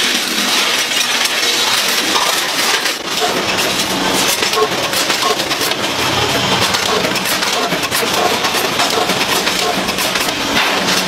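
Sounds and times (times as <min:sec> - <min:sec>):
packaging machinery clicking and clattering: 0:00.0 - 0:11.0.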